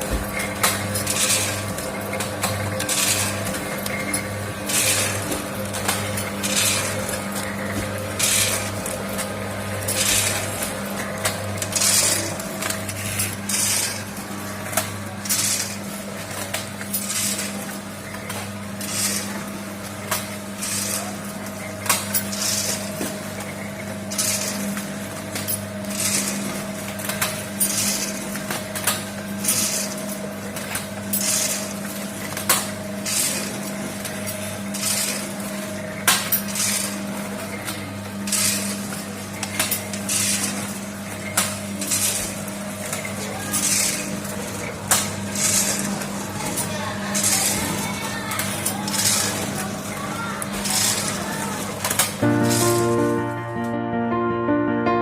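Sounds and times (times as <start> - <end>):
packing machine motor hum: 0.0 - 53.3.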